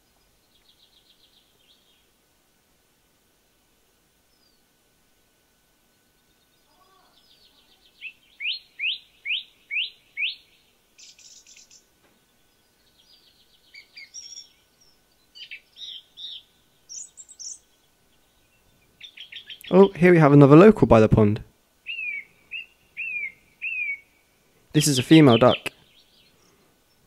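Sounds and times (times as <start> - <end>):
songbird singing: 0.0 - 2.4, 4.1 - 27.0.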